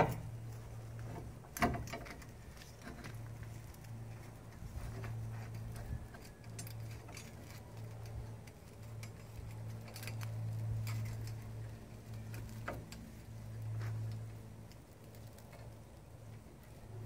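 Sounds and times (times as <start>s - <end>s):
light metallic clicks and ticks: 0.0s - 16.4s
steady low hum: 0.0s - 17.0s.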